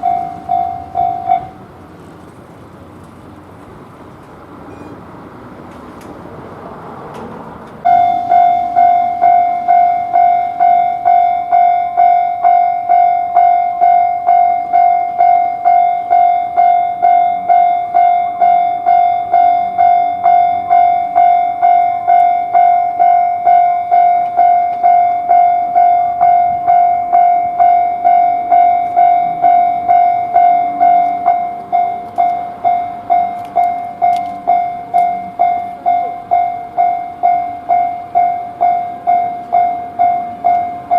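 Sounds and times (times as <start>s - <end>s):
level-crossing alarm: 0.0s - 1.6s, 7.8s - 40.9s.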